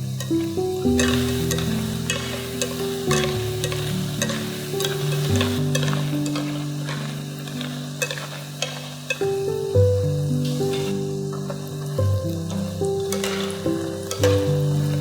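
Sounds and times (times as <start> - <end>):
food deep-frying in oil: 0.0 - 15.0
soft background music: 0.0 - 15.0.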